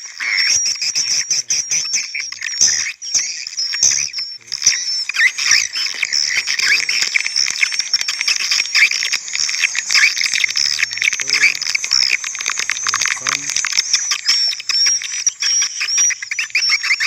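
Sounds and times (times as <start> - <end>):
swiftlet chirps and twitters: 0.3 - 17.0.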